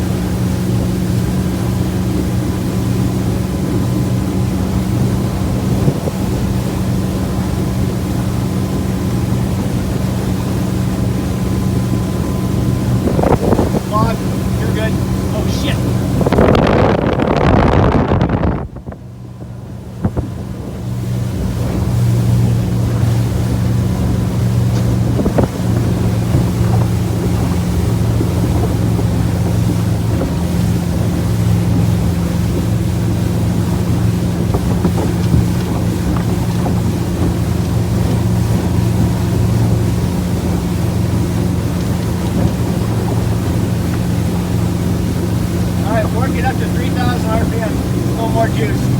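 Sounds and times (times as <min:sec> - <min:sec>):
motorboat engine running: 0:00.0 - 0:48.9
water rushing: 0:00.0 - 0:48.9
wind buffeting microphone: 0:00.0 - 0:48.9.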